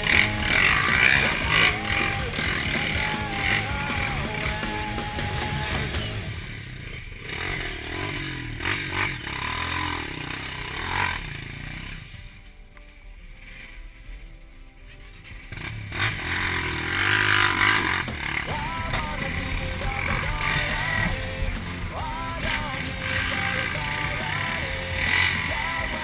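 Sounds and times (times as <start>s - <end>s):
motorcycle engine revving: 0.0s - 12.7s, 14.9s - 26.0s.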